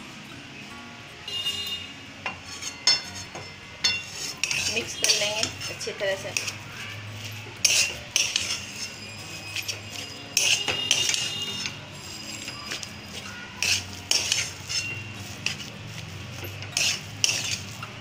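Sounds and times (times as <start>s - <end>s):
metal spatula scraping a metal pan: 2.3s - 18.0s.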